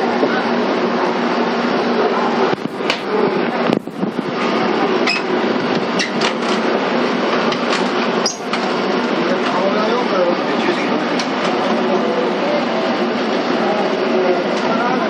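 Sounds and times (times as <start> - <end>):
train car running noise: 0.0 - 15.0.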